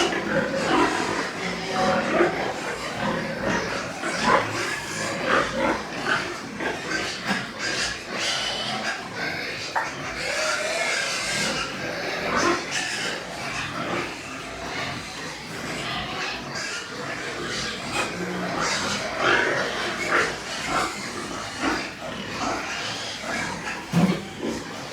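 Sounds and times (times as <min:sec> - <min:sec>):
pigs grunting: 0:00.0 - 0:24.9.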